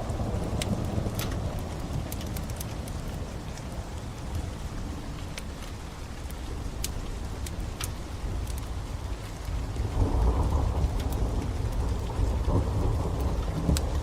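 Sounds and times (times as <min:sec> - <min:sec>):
thunder rumbling: 0:00.0 - 0:03.9, 0:06.5 - 0:14.0
fire crackling: 0:00.0 - 0:14.0
steady rain: 0:00.0 - 0:14.0.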